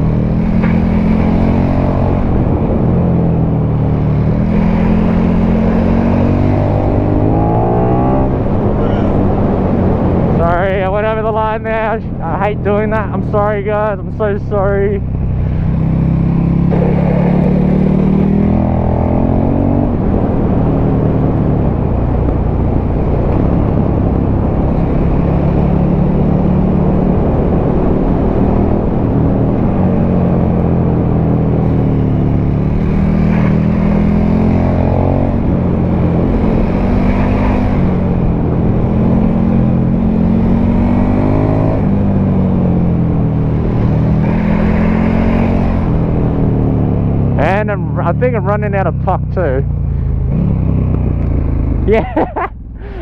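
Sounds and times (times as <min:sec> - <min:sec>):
motorcycle engine accelerating: 0:00.0 - 0:53.0
wind noise: 0:00.0 - 0:53.0.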